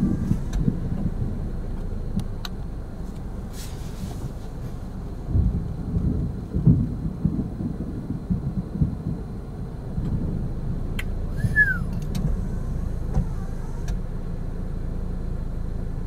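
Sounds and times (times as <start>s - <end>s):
thunder rumbling: 0.0s - 13.4s
low background rumble: 0.0s - 16.0s.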